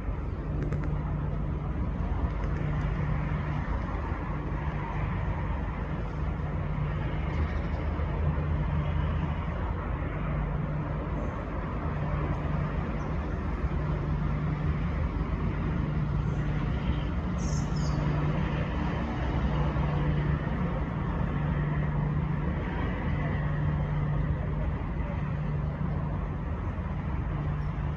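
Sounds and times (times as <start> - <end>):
constant low hum: 0.0 - 27.9
road traffic rumble: 0.0 - 27.9.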